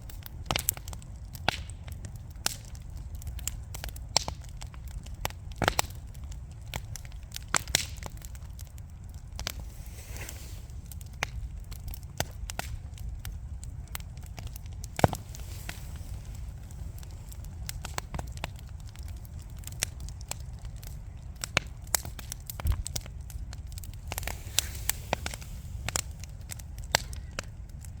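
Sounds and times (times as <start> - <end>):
logs crackling and popping: 0.0 - 28.0
low rumble of flames: 0.0 - 28.0.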